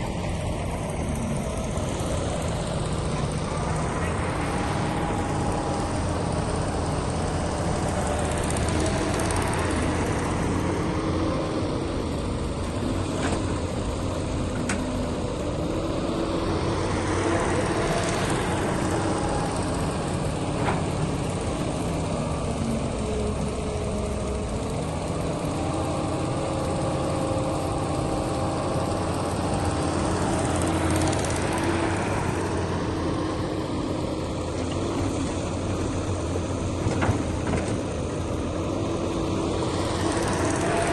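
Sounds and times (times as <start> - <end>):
diesel machinery running: 0.0 - 40.9.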